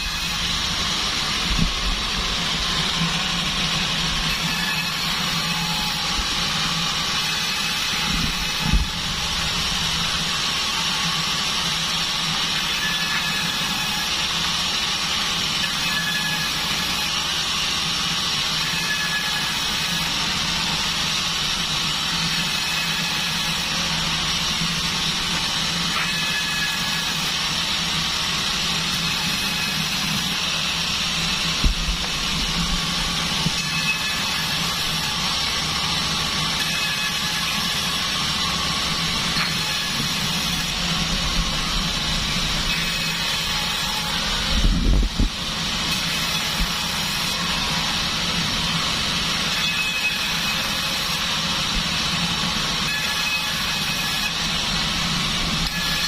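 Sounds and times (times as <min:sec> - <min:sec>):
bandsaw sawmill running: 0:00.0 - 0:56.0.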